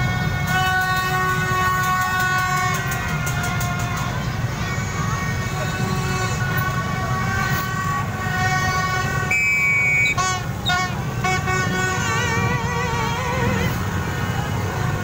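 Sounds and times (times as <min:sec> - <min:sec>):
motorbike engines running: 0:00.0 - 0:15.0
motorbike horns honking: 0:00.0 - 0:15.0.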